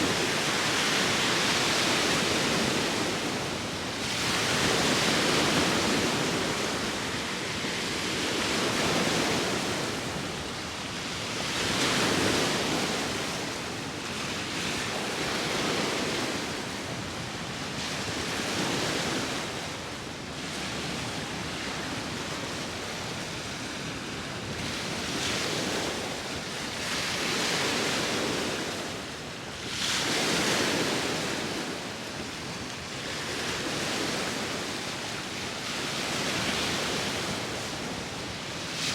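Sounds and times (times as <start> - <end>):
sea waves washing ashore: 0.0 - 38.9.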